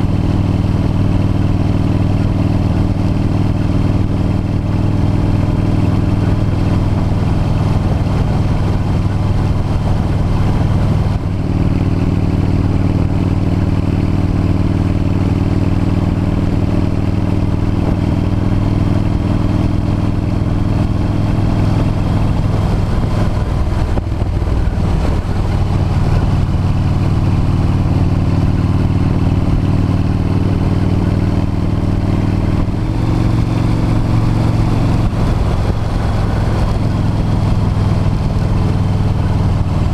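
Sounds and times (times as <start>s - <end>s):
motorcycle engine running: 0.0s - 39.9s
noisy rush: 0.0s - 39.9s.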